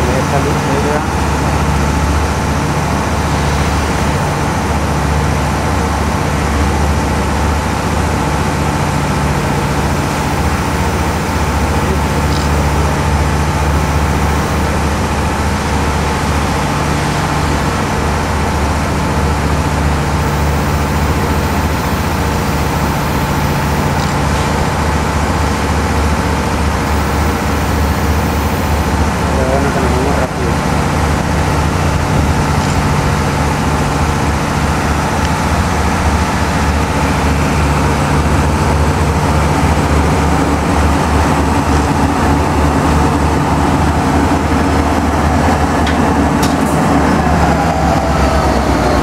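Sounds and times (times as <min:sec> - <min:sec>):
diesel locomotive engine drone: 0:00.0 - 0:49.0.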